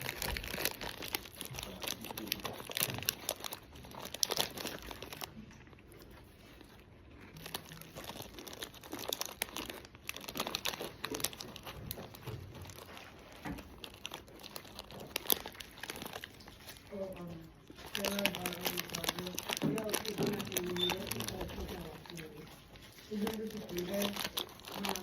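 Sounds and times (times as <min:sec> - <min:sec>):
snack bag crinkling: 0:00.0 - 0:25.0.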